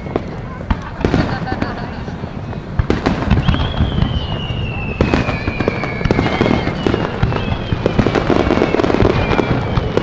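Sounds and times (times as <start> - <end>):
fireworks bangs and crackles: 0.0 - 10.0
fireworks whistling: 0.0 - 10.0.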